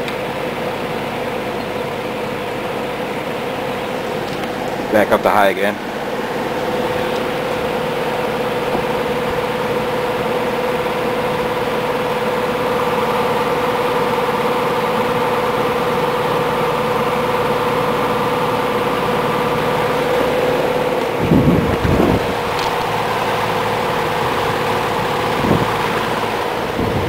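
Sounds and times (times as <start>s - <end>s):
box fan running: 0.0s - 27.0s.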